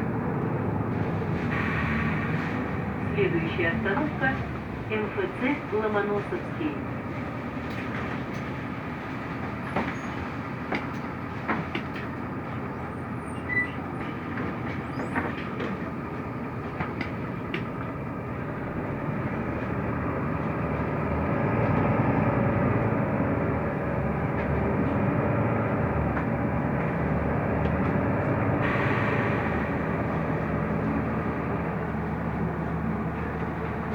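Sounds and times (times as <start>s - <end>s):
bus engine and road rumble: 0.0s - 33.9s.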